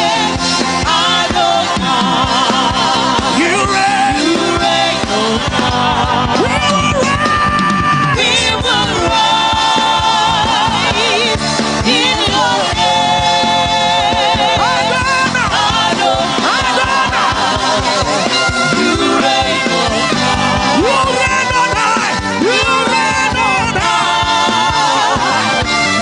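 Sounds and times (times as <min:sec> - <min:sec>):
gospel worship music: 0:00.0 - 0:26.0.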